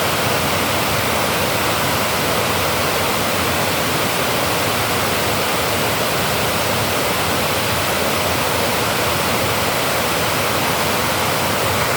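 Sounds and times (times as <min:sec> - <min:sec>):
water rushing over a dam: 0:00.0 - 0:11.9.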